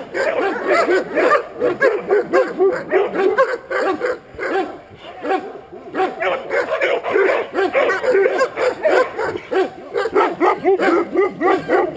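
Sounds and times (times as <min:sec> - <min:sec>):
dog barking rapidly: 0:00.0 - 0:11.9.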